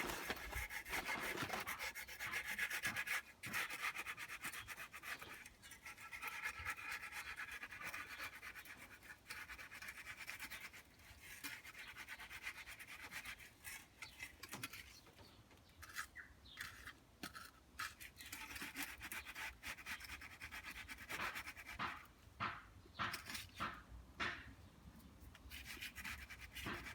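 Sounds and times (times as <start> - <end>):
hand tool scraping wet concrete: 0.0 - 15.0, 15.8 - 22.1, 25.4 - 26.9.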